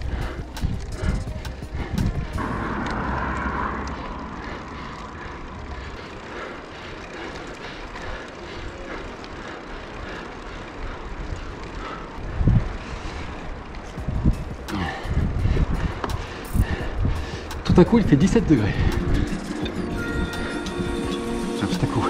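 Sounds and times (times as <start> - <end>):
low wind buffet: 0.0 - 22.0
wind and rolling noise: 0.0 - 22.0.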